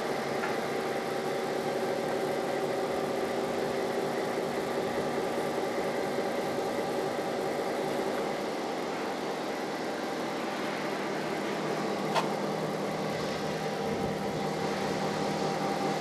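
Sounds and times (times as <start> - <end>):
diesel locomotive engine humming: 0.0 - 16.0
hiss of noise: 0.0 - 16.0.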